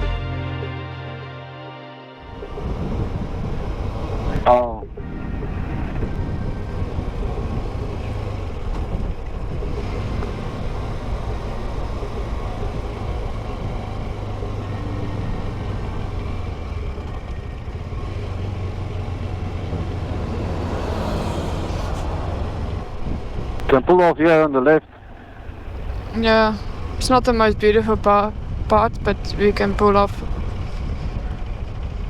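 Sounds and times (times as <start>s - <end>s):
motorcycle engine running: 2.2s - 23.8s, 24.8s - 32.0s
road and wind rush: 2.2s - 32.0s.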